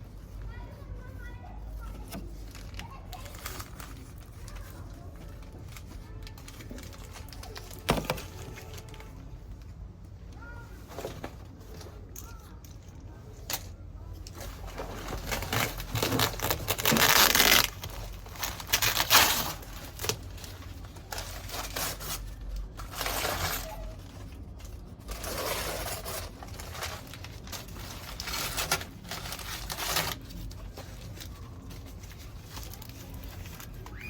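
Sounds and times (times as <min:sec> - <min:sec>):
packaging rustling and tearing: 0:01.1 - 0:09.6, 0:14.3 - 0:34.0.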